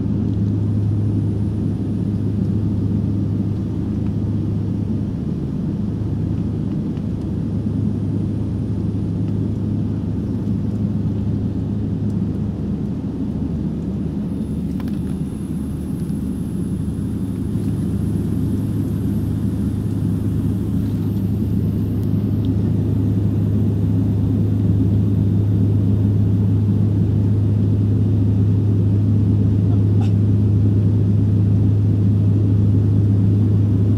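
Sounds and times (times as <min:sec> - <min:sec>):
engine rumble: 0:00.0 - 0:33.9
propeller drone: 0:00.0 - 0:33.9.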